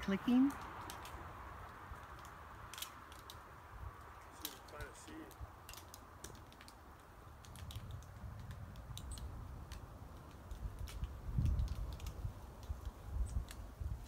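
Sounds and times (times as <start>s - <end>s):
pine cones clicking: 0.0s - 14.0s.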